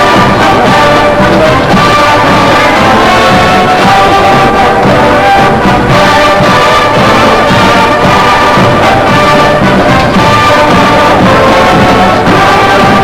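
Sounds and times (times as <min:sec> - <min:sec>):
brass-heavy orchestral music: 0:00.0 - 0:13.0.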